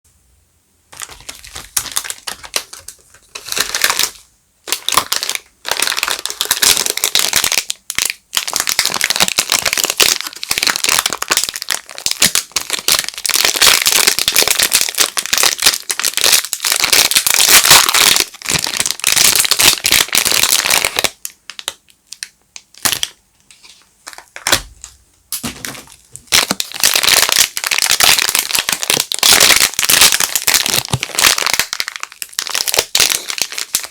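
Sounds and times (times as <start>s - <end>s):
soap packaging crinkling: 1.0s - 33.9s.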